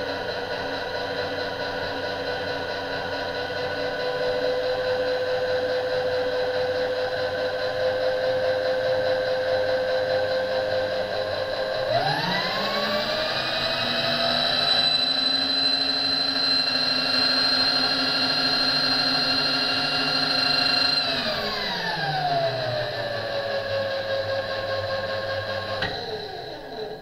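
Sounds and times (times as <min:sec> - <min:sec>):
small electric motor whining: 0:00.0 - 0:27.0.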